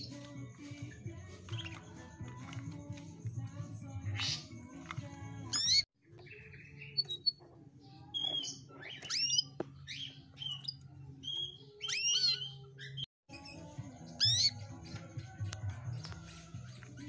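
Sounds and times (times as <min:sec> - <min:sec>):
canary chirping: 0:00.0 - 0:17.0.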